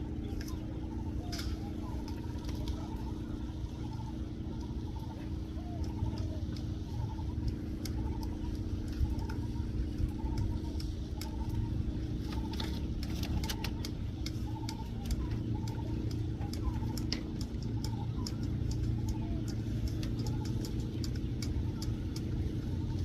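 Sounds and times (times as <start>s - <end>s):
vehicle engine humming: 0.0s - 23.0s
sharp clicks: 0.2s - 23.0s.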